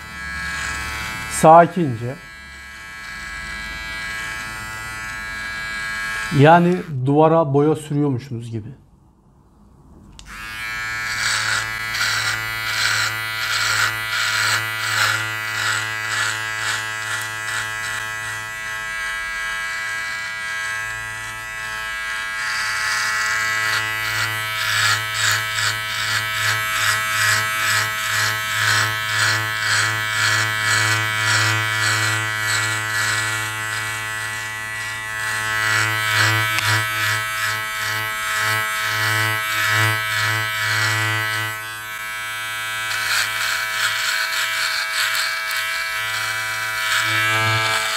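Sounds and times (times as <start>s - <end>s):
beard trimmer motor humming: 0.0s - 7.0s, 10.2s - 47.9s
trimmer blade cutting hair: 0.0s - 7.1s, 10.2s - 47.9s.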